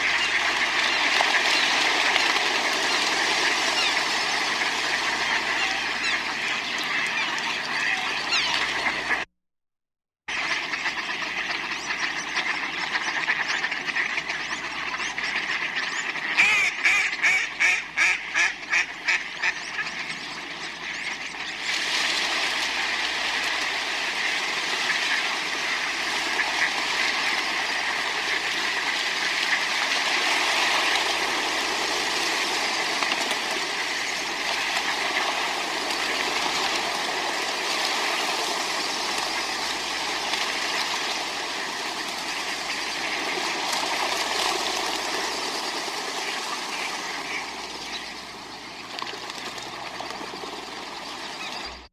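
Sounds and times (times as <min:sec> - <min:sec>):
water splashing: 0:00.0 - 0:09.2, 0:10.4 - 0:51.9
ducks quacking: 0:00.0 - 0:09.3, 0:10.3 - 0:51.9.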